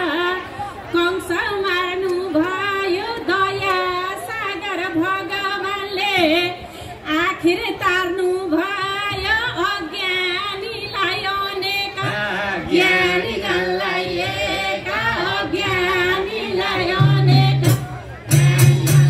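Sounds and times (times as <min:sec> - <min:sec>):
woman singing over loudspeaker: 0:00.0 - 0:19.0.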